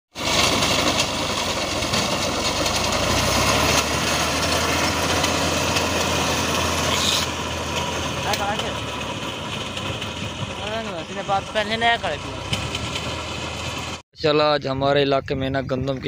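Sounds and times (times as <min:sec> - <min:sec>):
tractor engine running: 0:00.1 - 0:14.0.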